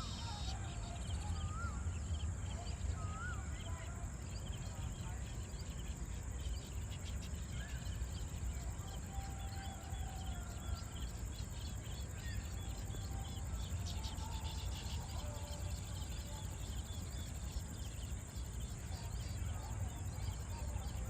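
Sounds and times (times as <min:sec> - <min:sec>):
high insect drone: 0:00.0 - 0:21.0
small birds chirping: 0:00.0 - 0:21.0.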